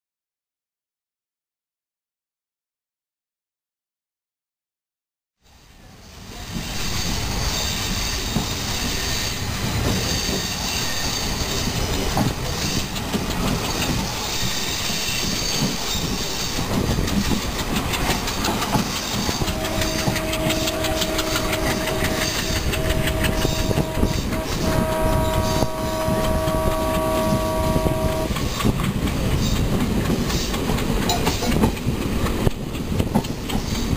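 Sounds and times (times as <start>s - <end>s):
train wheels clattering over joints: 6.5s - 33.9s
wind rush and rumble: 6.5s - 33.9s.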